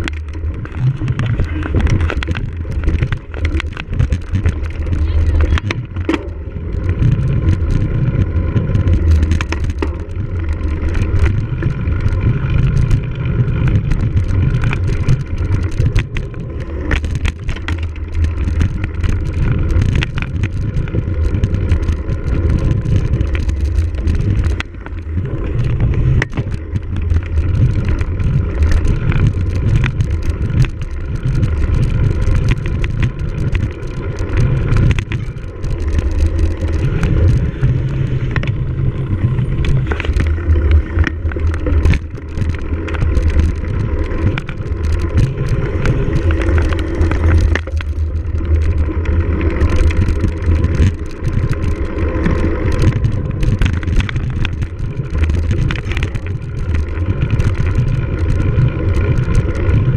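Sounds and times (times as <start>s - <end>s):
bike rattling and clicking: 0.0s - 59.9s
wind rumble on microphone: 0.0s - 59.9s.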